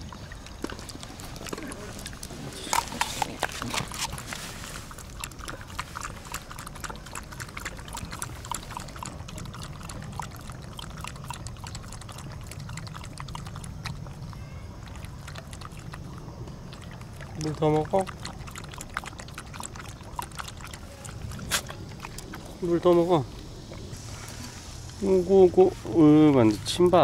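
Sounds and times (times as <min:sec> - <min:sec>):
dog lapping water: 0:00.0 - 0:24.1.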